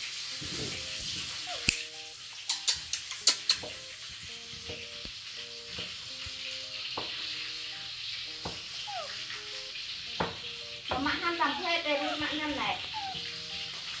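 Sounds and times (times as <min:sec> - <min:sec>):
sizzling hiss: 0:00.0 - 0:14.0
soft background music: 0:00.0 - 0:14.0.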